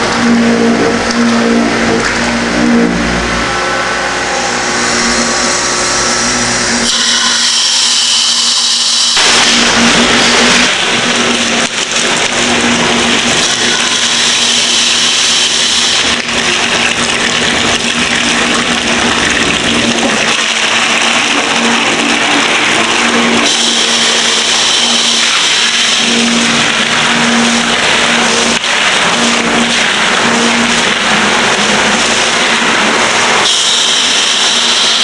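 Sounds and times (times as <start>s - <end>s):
steady machine hum: 0.0s - 35.0s
water from hose into plastic bucket: 4.8s - 35.0s.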